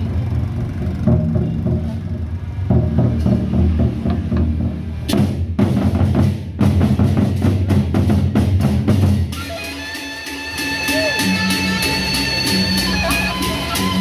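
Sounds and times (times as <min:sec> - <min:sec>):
barrel drums beaten in fast rhythm: 0:00.2 - 0:14.0.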